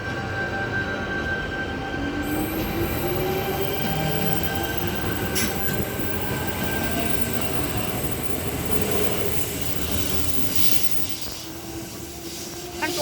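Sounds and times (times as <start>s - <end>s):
train wheels on rails: 1.2s - 13.0s
traction motors whining: 2.0s - 13.0s.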